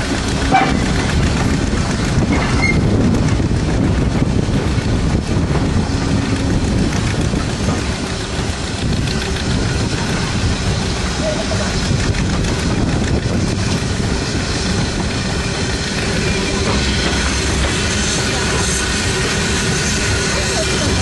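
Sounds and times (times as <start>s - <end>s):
wheels rumbling on rail: 0.0s - 21.0s
wind buffeting the microphone: 0.0s - 21.0s.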